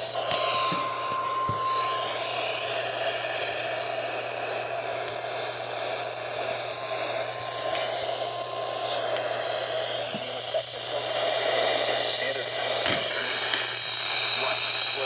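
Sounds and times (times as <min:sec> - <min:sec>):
low steady hum: 0:00.0 - 0:15.0
radio static hiss: 0:00.0 - 0:15.0.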